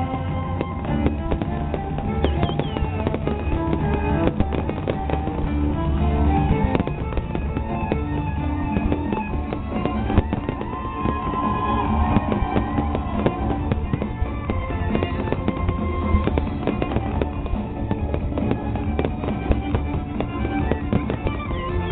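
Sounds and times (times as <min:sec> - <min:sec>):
fireworks bangs and crackles: 0:00.0 - 0:21.9
music with held notes: 0:00.0 - 0:21.9.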